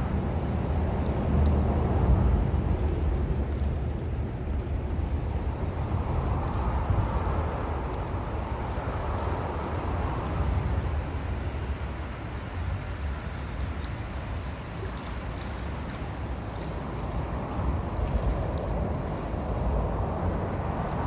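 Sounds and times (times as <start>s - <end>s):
wind buffeting the microphone: 0.0s - 21.0s.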